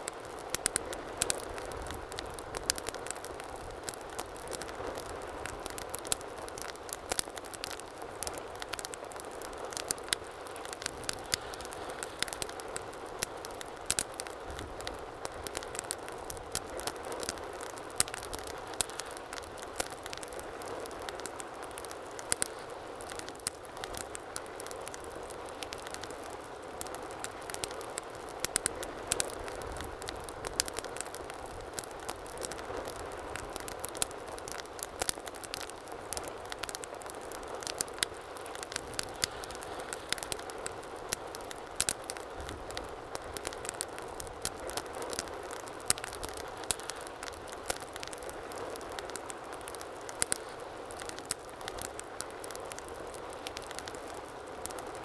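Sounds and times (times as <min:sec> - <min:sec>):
fire popping and snapping: 0:00.0 - 0:55.0
hiss of burning fire: 0:00.0 - 0:55.0.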